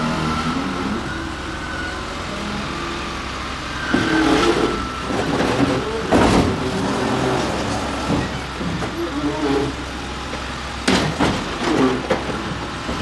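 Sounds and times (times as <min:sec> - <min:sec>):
heavy machinery engine running: 0:00.0 - 0:13.0.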